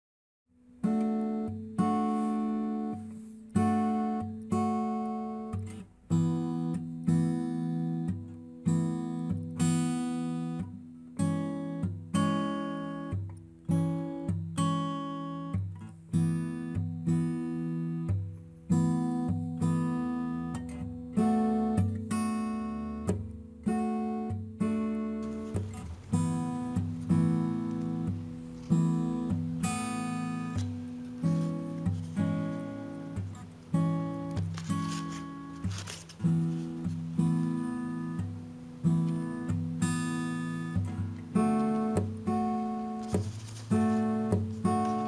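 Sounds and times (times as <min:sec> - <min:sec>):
acoustic guitar chords strummed: 0:00.6 - 0:45.0.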